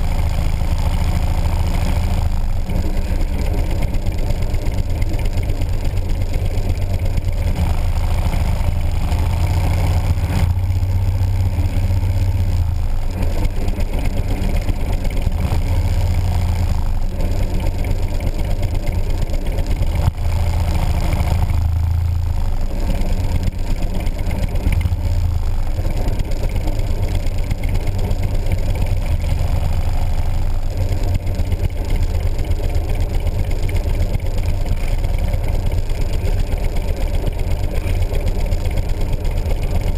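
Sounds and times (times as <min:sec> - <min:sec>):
motorcycle engine pulsing: 0:00.0 - 0:39.9.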